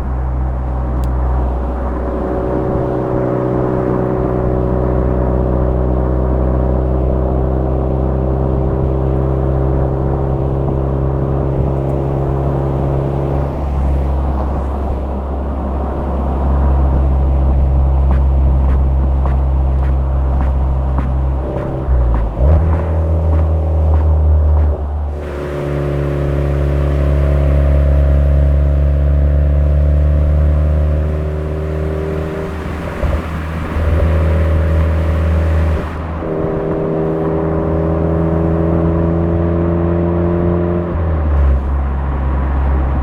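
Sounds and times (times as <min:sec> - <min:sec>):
low car exhaust drone: 0:00.0 - 0:43.0.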